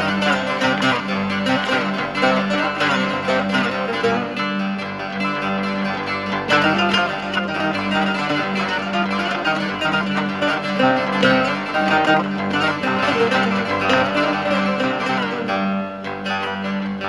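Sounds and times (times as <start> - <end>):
plucked string melody: 0.0 - 17.0.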